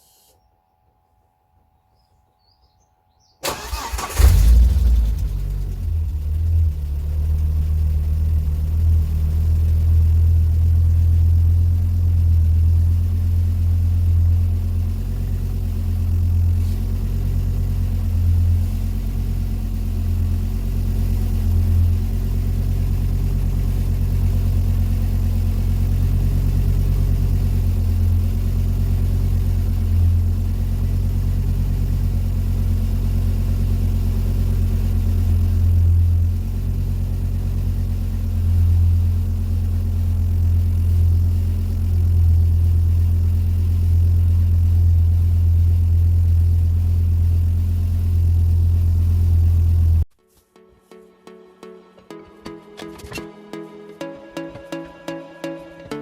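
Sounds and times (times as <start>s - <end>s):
car engine idling: 3.4s - 50.1s.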